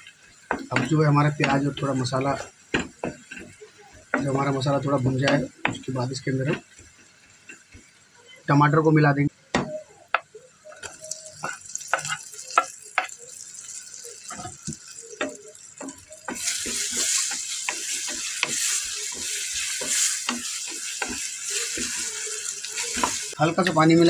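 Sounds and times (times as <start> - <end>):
wooden spoon stirring: 0.0 - 8.1, 10.8 - 24.0
frying sizzle: 0.0 - 24.0.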